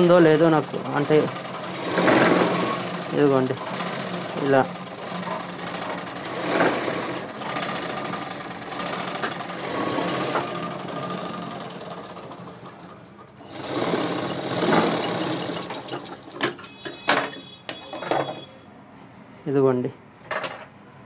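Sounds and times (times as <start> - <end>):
sewing machine stitching: 0.0 - 18.4.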